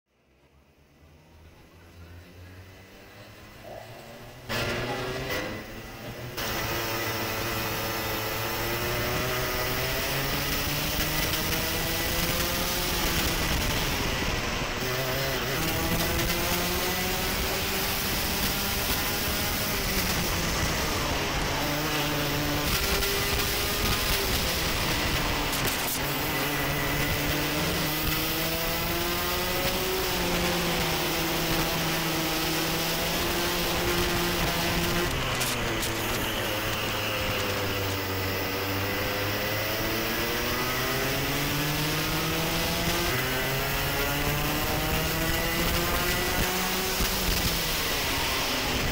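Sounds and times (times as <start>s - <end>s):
racing kart engine: 0.1s - 48.9s.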